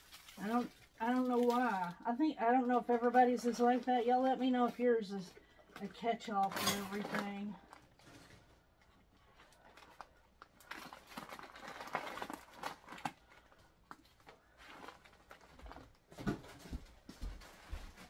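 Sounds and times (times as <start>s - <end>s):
plastic bag rustling: 0.0s - 18.0s.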